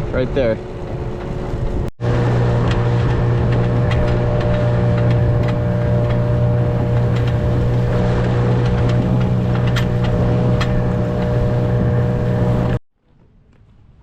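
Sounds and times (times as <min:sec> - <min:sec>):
outboard motor running: 0:00.0 - 0:12.8
water and wind hiss: 0:00.0 - 0:12.8.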